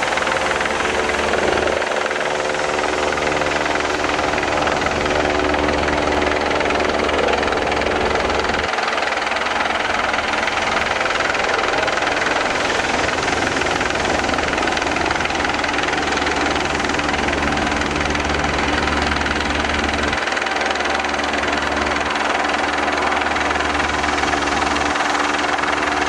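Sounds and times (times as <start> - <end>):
helicopter hovering: 0.0 - 26.0
steady rushing noise: 0.0 - 26.0.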